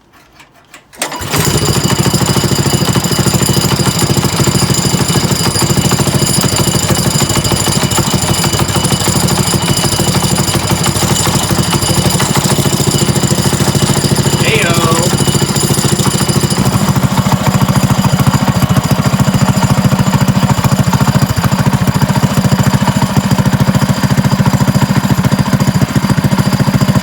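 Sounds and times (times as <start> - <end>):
small engine running: 1.0 - 27.0.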